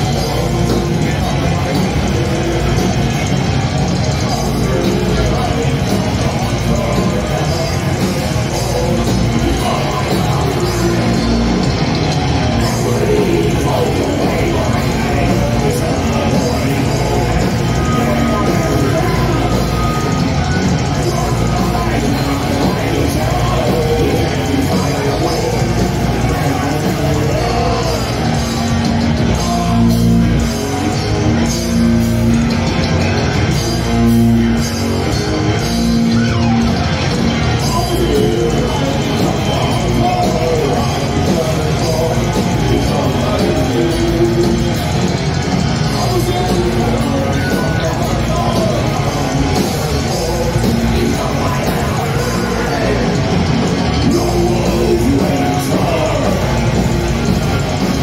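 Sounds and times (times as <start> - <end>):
heavy metal band playing live: 0.0 - 58.0.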